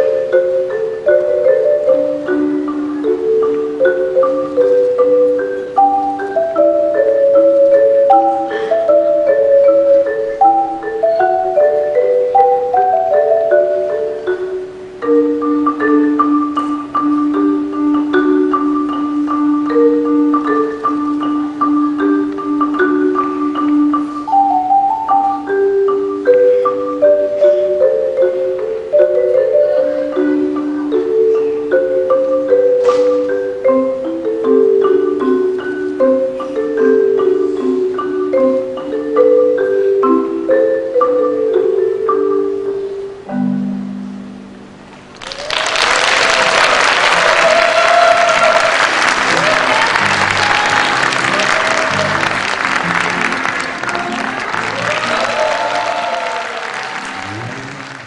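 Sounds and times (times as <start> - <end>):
marimba melody: 0.0 - 45.4, 46.4 - 57.8.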